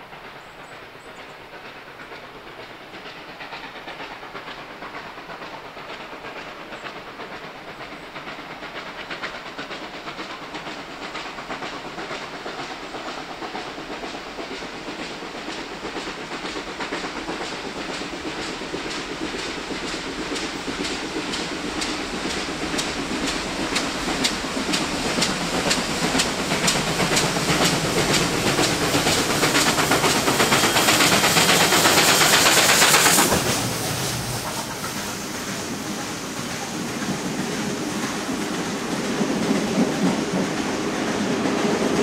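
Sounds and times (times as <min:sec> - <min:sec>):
steam locomotive exhaust beating: 0:00.0 - 0:42.0.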